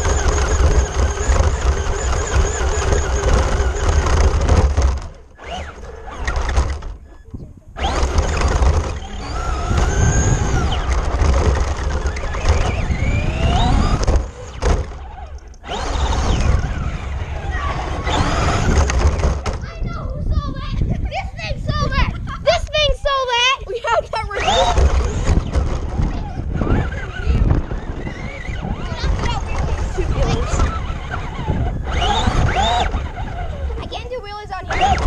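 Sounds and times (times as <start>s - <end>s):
motor whine: 0.0s - 19.7s, 24.3s - 35.0s
rc car wheels rumbling: 0.0s - 35.0s.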